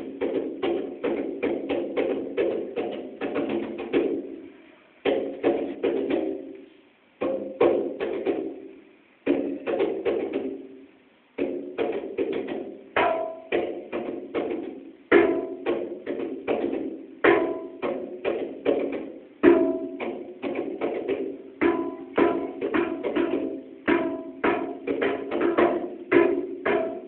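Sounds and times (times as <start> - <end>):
tabla drums playing: 0.0 - 4.4, 5.0 - 6.6, 7.2 - 27.0.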